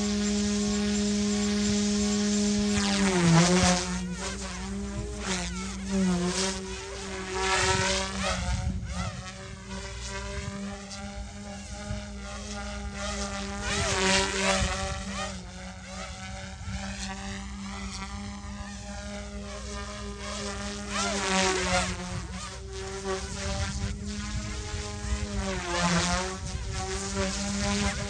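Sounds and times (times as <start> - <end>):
toy helicopter rotor whine: 0.0 - 28.0.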